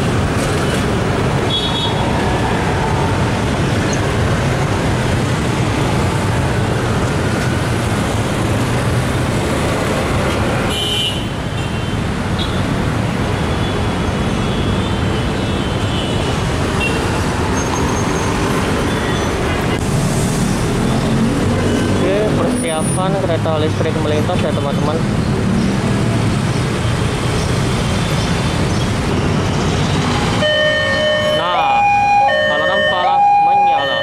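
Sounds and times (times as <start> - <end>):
bus engines: 0.0 - 34.0
car engines: 0.0 - 34.0
motorcycle engines: 0.0 - 34.0.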